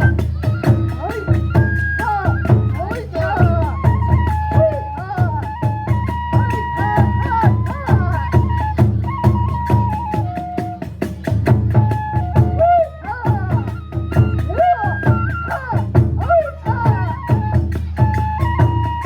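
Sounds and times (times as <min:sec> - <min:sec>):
bamboo flute melody: 0:00.0 - 0:19.0
drums beating: 0:00.0 - 0:19.0.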